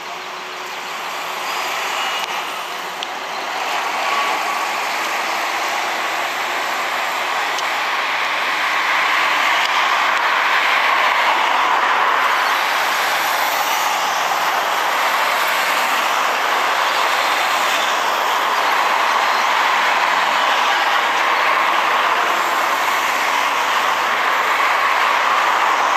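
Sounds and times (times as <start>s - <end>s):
train wheels rushing on rail: 0.0s - 25.9s.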